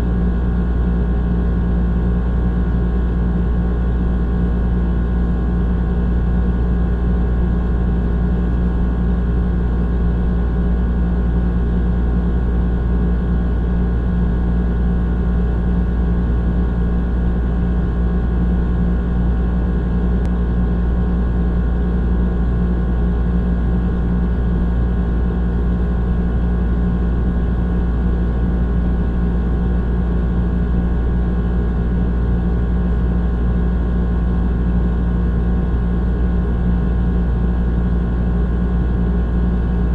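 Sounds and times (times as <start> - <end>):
air conditioner droning: 0.0 - 39.9.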